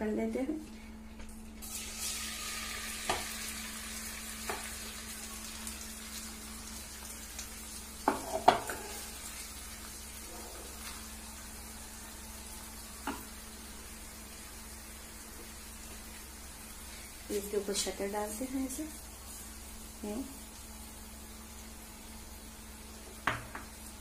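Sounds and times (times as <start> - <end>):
rice sizzling in a pan: 1.6 - 24.0.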